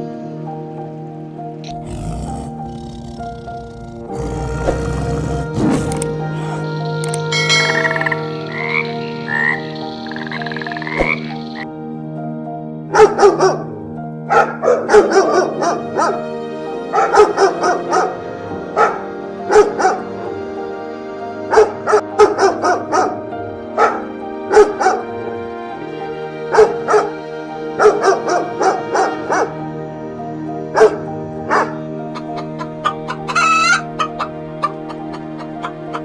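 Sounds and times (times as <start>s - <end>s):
background music with sustained chords: 0.0s - 36.0s.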